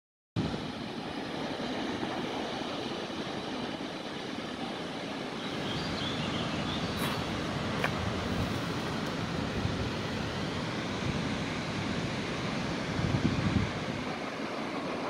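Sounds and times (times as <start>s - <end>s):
steady rushing outdoor noise: 0.4s - 15.0s.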